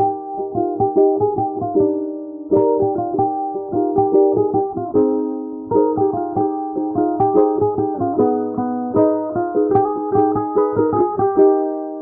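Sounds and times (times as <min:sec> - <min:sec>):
brisk piano melody: 0:00.0 - 0:12.0.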